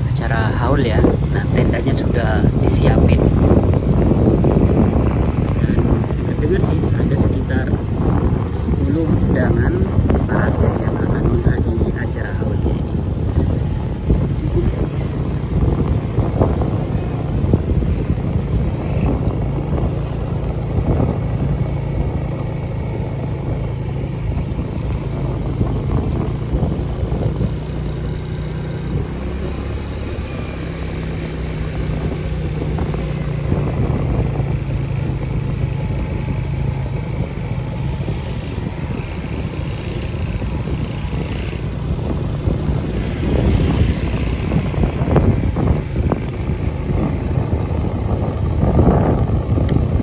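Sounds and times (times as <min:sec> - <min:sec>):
small motorcycle engine running: 0:00.0 - 0:50.0
wind buffeting microphone: 0:00.0 - 0:50.0.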